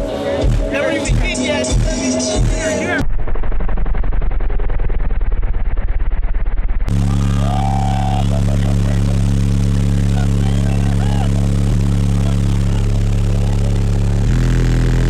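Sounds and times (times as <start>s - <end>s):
deep distorted subwoofer bass tone: 0.0s - 15.0s.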